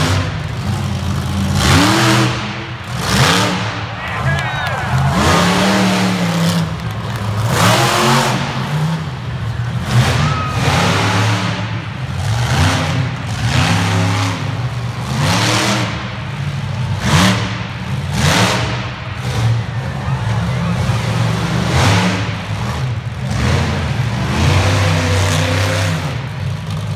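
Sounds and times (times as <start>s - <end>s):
truck engine revving: 0.0s - 26.9s.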